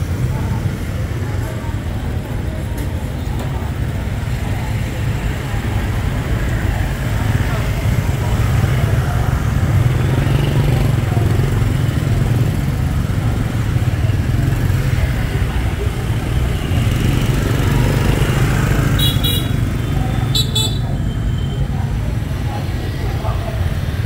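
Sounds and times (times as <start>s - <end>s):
motorbike engines rumbling: 0.0s - 24.0s
road noise: 0.0s - 24.0s.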